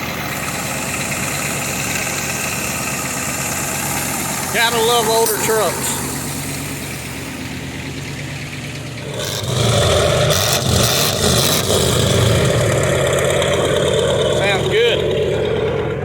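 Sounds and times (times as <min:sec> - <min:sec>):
diesel truck engine idling and revving: 0:00.0 - 0:16.0.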